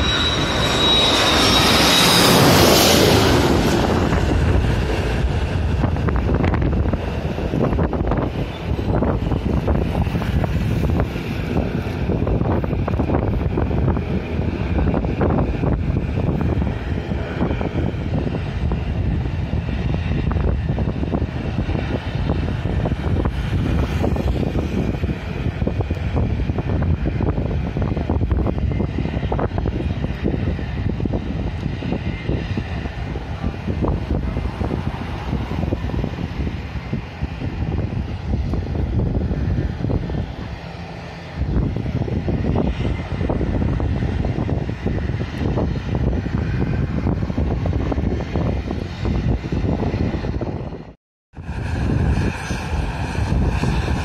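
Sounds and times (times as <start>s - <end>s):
steady low rumble: 0.0s - 54.0s
wind buffeting microphone: 0.0s - 54.0s.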